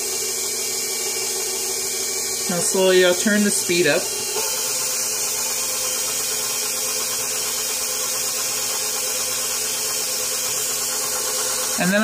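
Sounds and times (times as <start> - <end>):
stand mixer whisking: 0.0 - 12.0.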